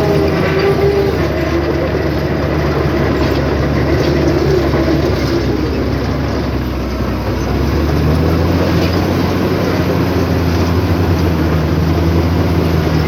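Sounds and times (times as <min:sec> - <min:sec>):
bulldozer diesel engine: 0:00.0 - 0:13.0.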